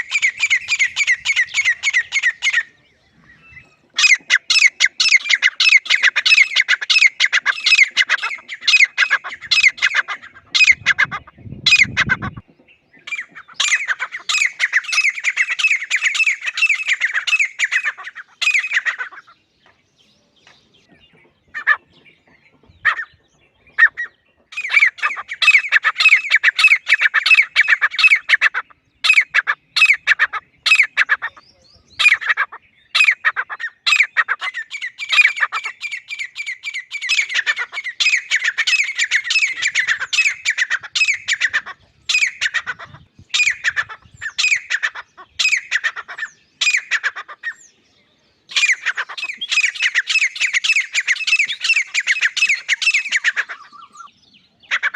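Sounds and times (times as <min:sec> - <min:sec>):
francolin squawking calls: 0:00.0 - 0:19.4, 0:22.5 - 0:47.7, 0:48.4 - 0:54.9.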